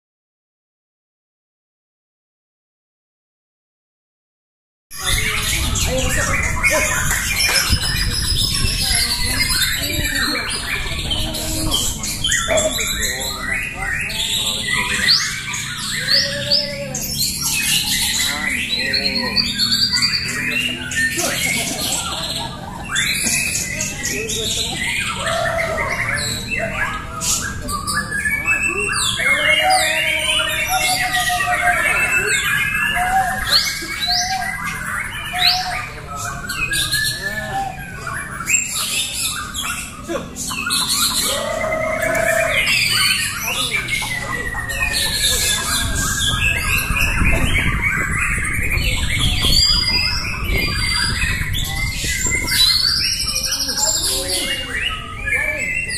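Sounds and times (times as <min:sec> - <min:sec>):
songbirds singing in chorus: 0:04.9 - 0:55.9.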